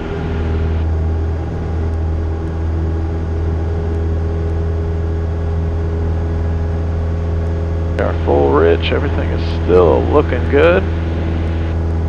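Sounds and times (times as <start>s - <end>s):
airplane engine drone in cabin: 0.0s - 12.0s.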